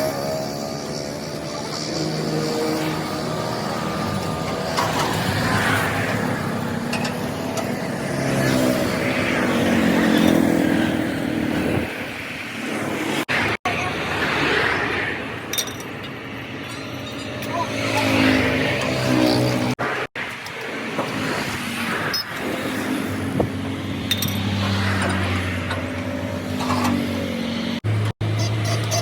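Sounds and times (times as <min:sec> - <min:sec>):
tyre and road noise: 0:00.0 - 0:29.0
vehicle engines passing: 0:00.0 - 0:29.0.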